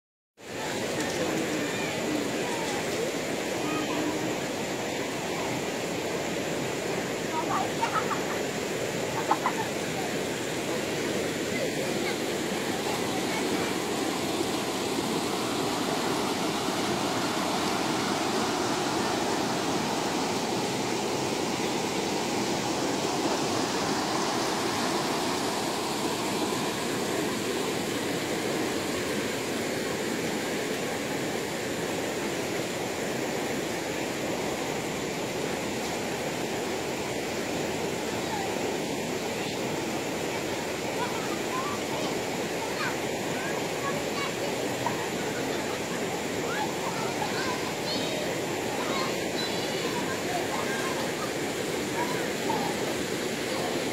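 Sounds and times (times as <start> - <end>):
river water rushing over boulders: 0.4 - 53.9.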